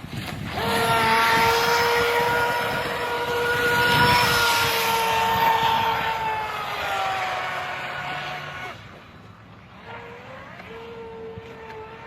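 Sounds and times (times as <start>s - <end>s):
model boat motor whining: 0.4s - 12.0s.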